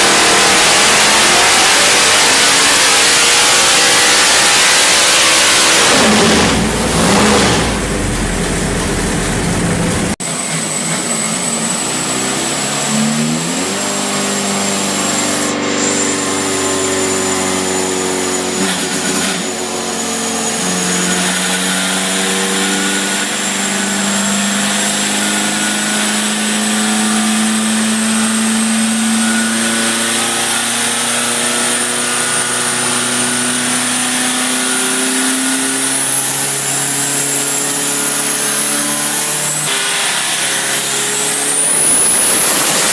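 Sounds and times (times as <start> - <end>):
high turbo whine: 0.0 - 42.9
turbocharged engine running: 0.0 - 42.9.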